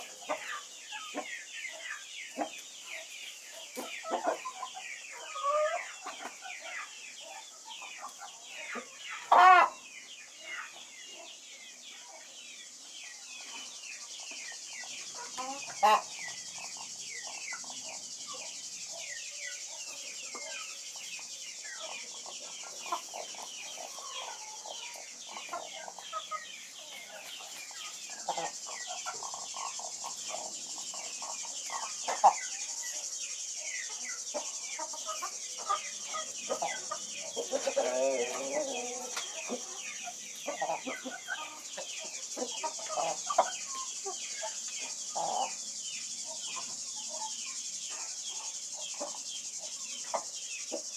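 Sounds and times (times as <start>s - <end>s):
chickens clucking: 0.0s - 50.9s
high insect drone: 0.0s - 50.9s.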